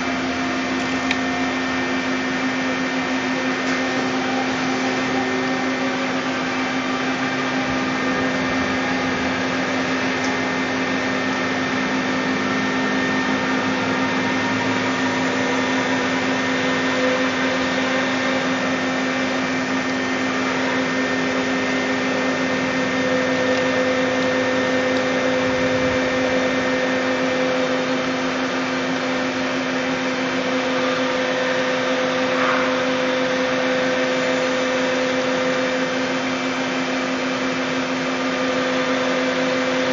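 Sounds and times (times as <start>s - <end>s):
lathe whirring: 0.0s - 39.9s.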